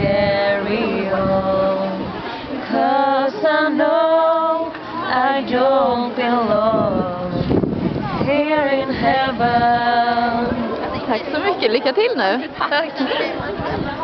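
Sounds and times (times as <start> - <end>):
women singing a cappella: 0.0 - 11.7.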